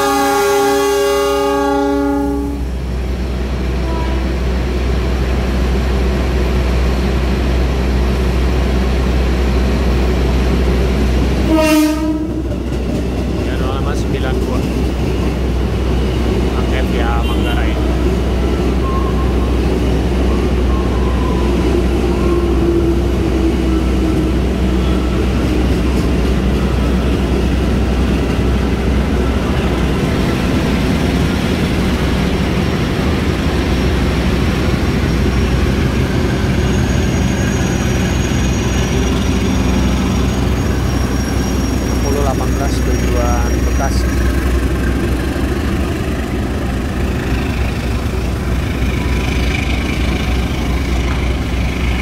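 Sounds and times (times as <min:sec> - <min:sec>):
rail noise: 0:00.0 - 0:52.0
train engine drone: 0:00.0 - 0:52.0.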